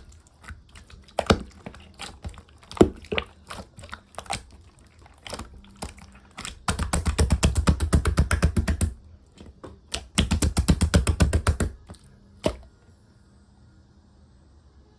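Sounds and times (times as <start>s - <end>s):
slime squished with sticky pops: 0.0s - 12.7s.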